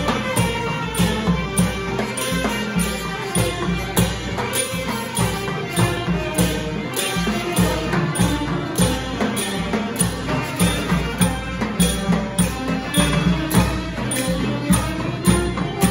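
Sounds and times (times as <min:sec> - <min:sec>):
snare drums: 0:00.0 - 0:15.9.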